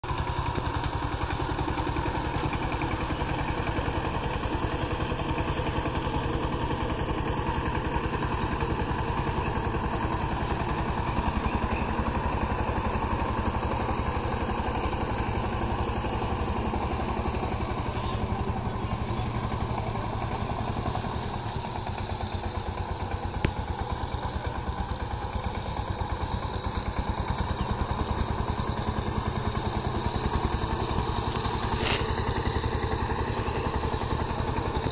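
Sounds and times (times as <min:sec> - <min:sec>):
diesel engine chugging: 0:00.0 - 0:34.9.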